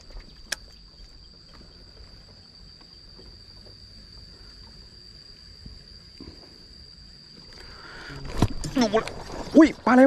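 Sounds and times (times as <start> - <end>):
insect trilling: 0.0 - 10.0.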